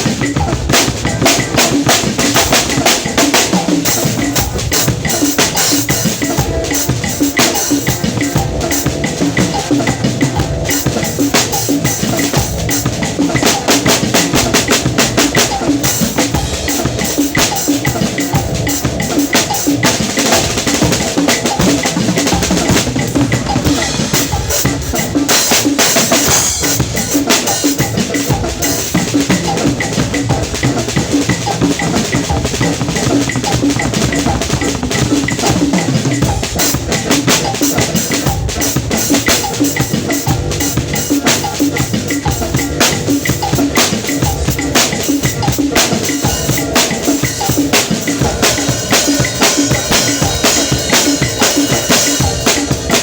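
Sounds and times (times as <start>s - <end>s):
bass drum: 0.0s - 53.0s
cymbals: 0.0s - 53.0s
snare drum: 0.0s - 53.0s.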